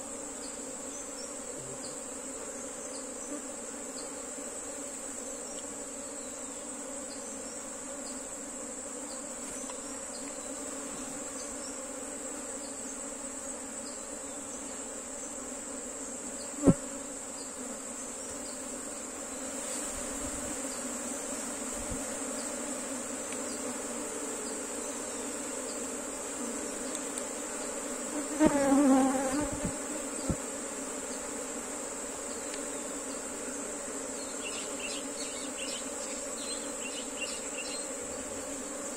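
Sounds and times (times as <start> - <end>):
bee colony humming: 0.0 - 38.9.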